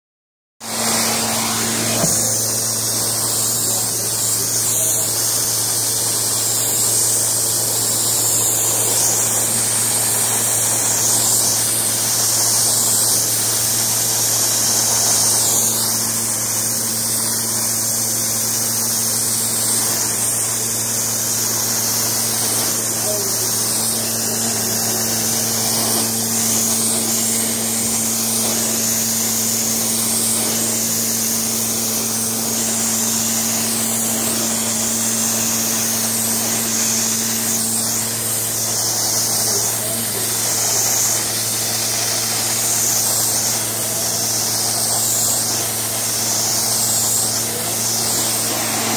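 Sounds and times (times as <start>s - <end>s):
motor hum: 0.6s - 48.9s
vacuum suction hiss: 0.6s - 48.9s.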